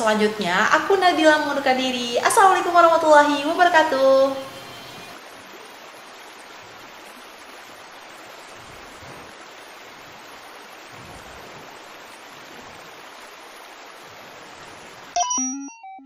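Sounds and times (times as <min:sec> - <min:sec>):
steady recording hiss: 0:00.0 - 0:15.2.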